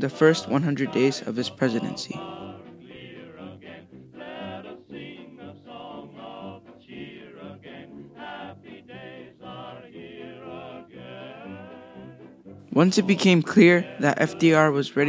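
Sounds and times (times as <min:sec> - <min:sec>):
choir-like singing: 0:00.0 - 0:15.0.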